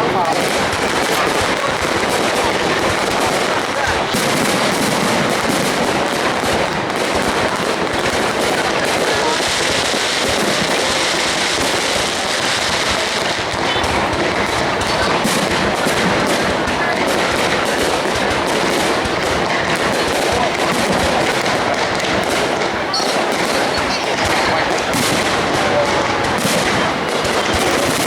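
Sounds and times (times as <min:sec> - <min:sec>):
crowd voices: 0:00.0 - 0:28.0
fireworks crackling and banging: 0:00.0 - 0:28.0.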